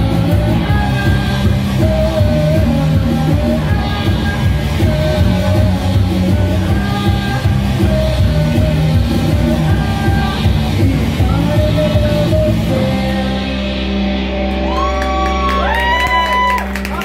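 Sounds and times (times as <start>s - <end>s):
woman singing: 0.0s - 13.8s
live rock band playing: 0.0s - 17.0s.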